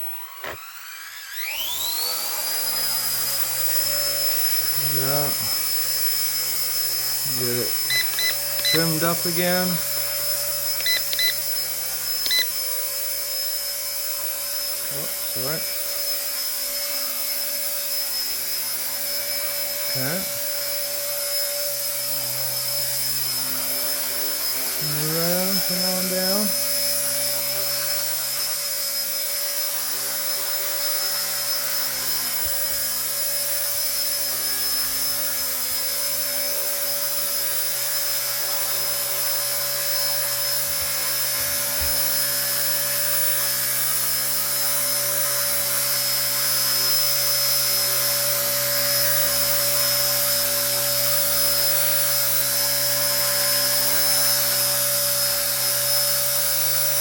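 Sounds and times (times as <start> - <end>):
micro helicopter motor whine: 0.0 - 57.0.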